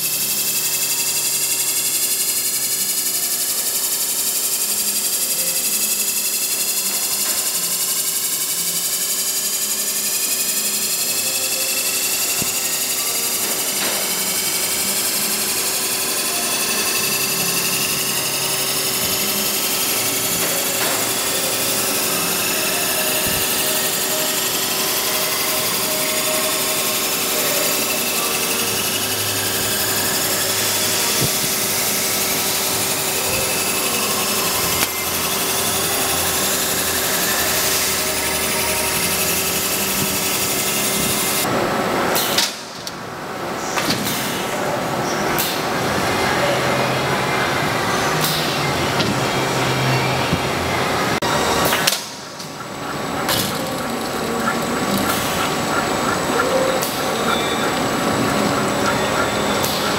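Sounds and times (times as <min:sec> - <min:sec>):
grinder whirring hiss and hum: 0:00.0 - 0:42.6, 0:45.4 - 0:59.9.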